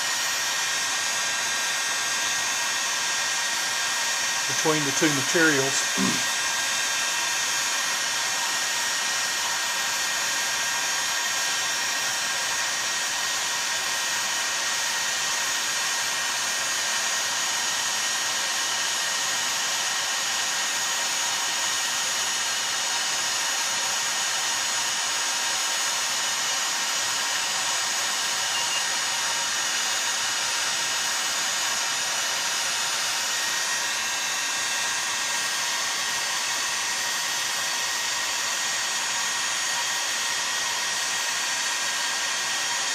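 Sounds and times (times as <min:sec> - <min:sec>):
heat gun blowing: 0:00.0 - 0:42.9.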